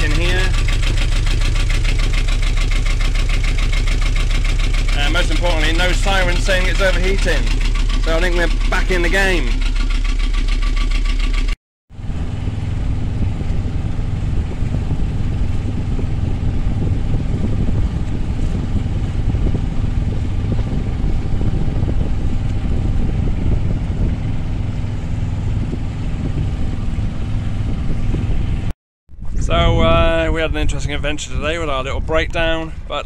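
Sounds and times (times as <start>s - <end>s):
diesel engine running: 0.0s - 28.7s
water noise: 0.0s - 30.6s
wind: 0.0s - 33.0s.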